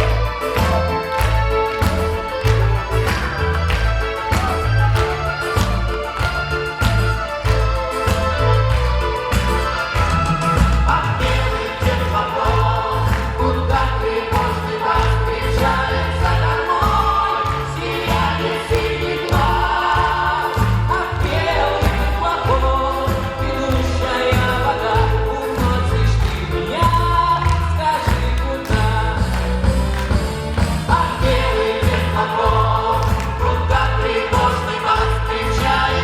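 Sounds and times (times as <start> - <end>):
steady bass beat: 0.0 - 36.0
vocal ensemble singing: 0.0 - 36.0.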